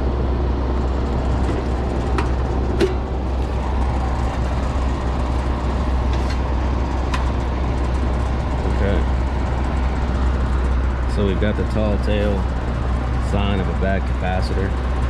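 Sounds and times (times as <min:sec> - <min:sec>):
condenser fan motor humming: 0:00.0 - 0:15.0.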